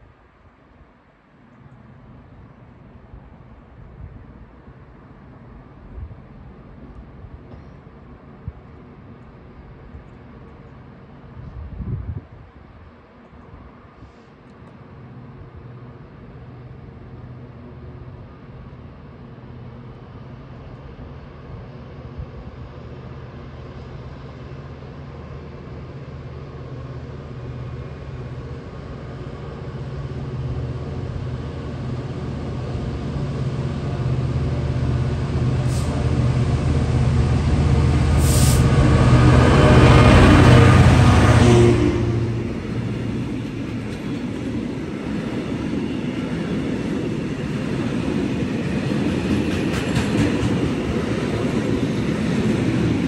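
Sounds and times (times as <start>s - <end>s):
diesel locomotive engine drone: 0.0s - 53.0s.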